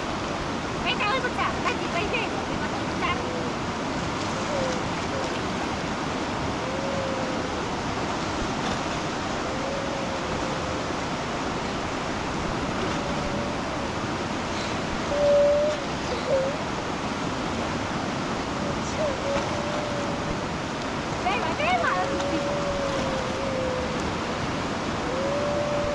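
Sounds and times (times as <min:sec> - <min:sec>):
fast-flowing floodwater rushing: 0:00.0 - 0:25.9.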